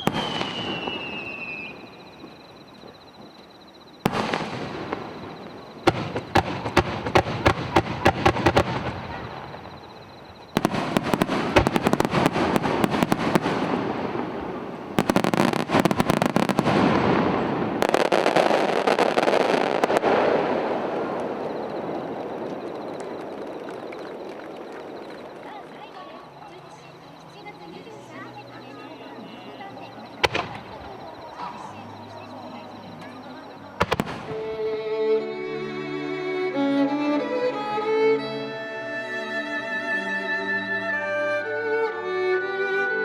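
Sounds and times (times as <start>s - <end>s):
fireworks bursting and crackling: 0.0s - 35.2s.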